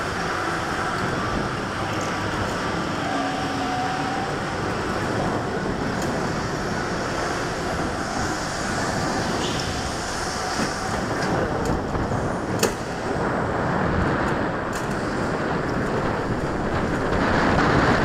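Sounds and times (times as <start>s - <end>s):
go-kart motor and tyres running: 0.0s - 18.0s.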